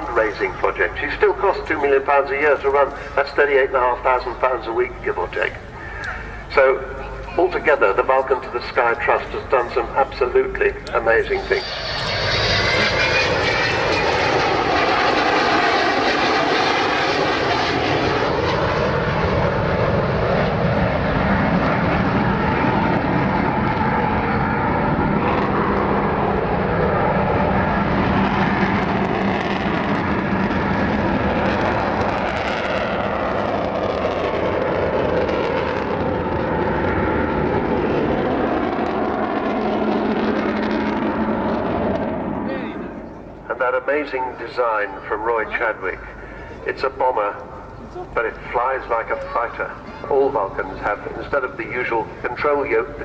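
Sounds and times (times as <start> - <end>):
jet bomber roaring overhead: 0.0 - 53.0.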